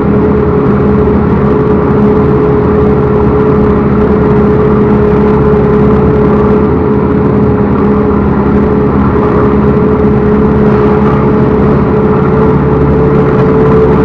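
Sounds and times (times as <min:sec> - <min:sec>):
diesel engine running: 0:00.0 - 0:14.0
steady high tone: 0:00.0 - 0:14.0.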